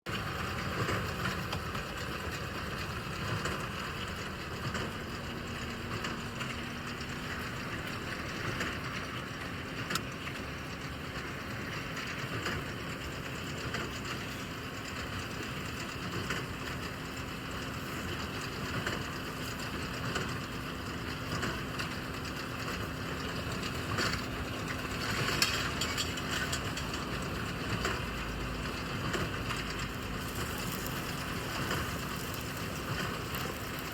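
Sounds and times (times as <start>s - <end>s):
tractor engine drone: 0.1s - 33.9s.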